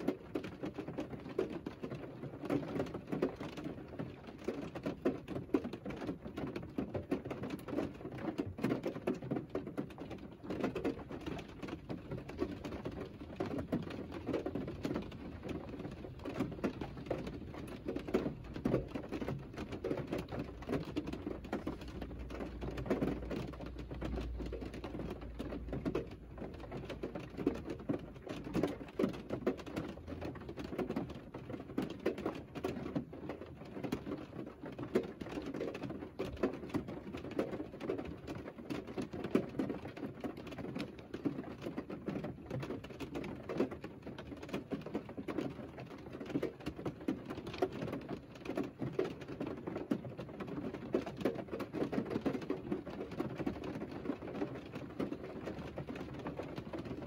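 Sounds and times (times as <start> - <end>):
rain pattering on car roof: 0.0 - 57.0.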